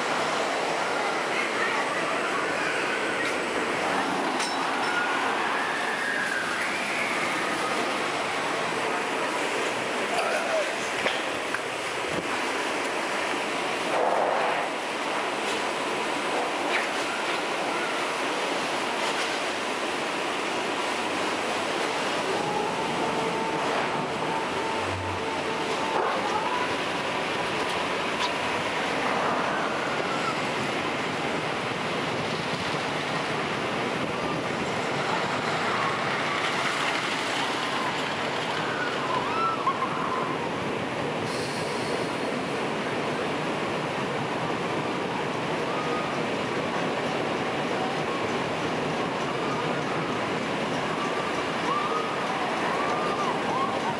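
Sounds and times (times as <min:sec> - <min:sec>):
flowing water rushing: 0:00.0 - 0:53.9.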